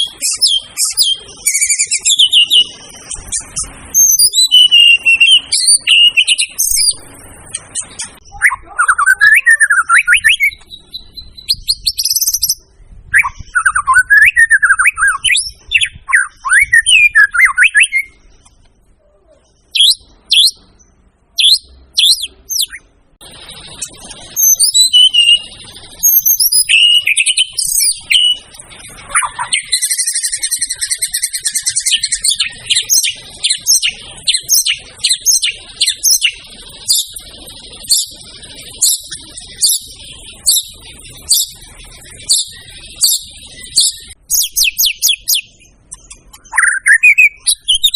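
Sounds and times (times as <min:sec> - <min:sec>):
bird singing whistled phrases: 0:00.0 - 0:18.3, 0:19.6 - 0:47.9.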